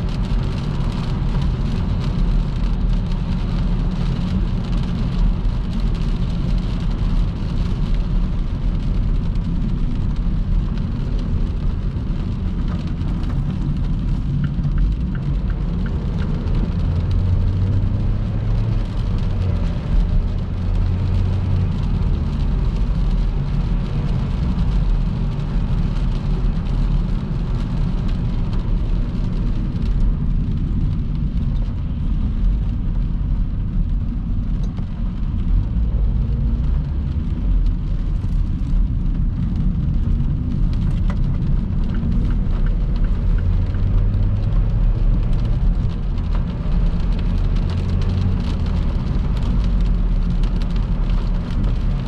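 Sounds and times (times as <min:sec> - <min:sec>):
tyre noise on wet road: 0:00.0 - 0:52.0.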